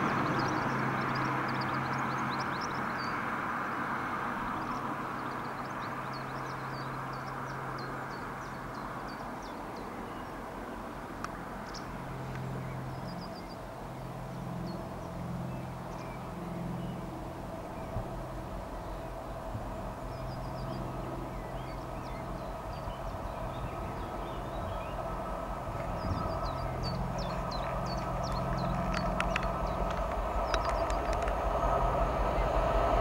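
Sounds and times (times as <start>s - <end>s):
birds chirping: 0.0s - 33.0s
distant diesel locomotive drone: 0.0s - 33.0s.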